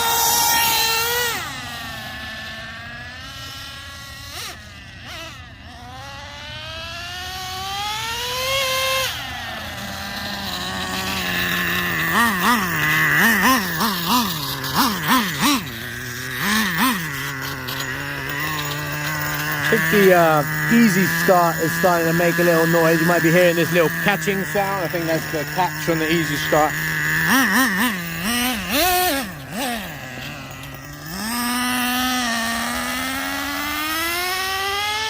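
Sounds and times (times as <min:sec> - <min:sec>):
small nitro engine revving: 0:00.0 - 0:35.0.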